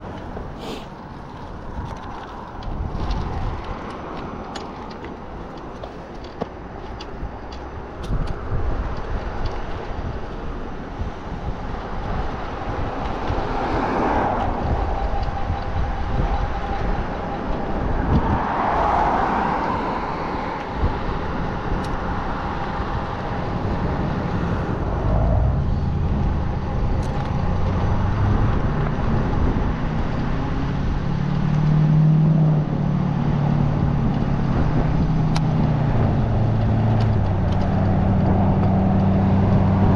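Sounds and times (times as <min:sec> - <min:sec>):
low engine hum: 0:00.0 - 0:39.9
passing traffic: 0:00.0 - 0:39.9
road noise from moving bike: 0:00.0 - 0:39.9
wind rumbling on microphone: 0:00.0 - 0:39.9.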